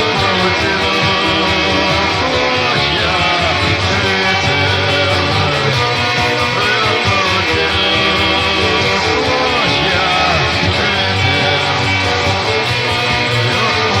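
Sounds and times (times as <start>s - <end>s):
distorted electric guitar: 0.0s - 14.0s
rock band backing track: 0.0s - 14.0s.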